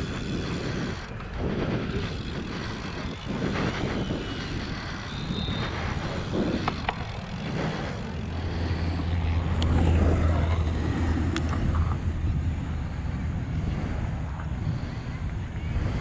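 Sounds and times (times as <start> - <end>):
bike tyres rolling on dirt: 0.0 - 16.0
low rumble: 0.0 - 16.0
wind buffeting microphone: 0.0 - 16.0.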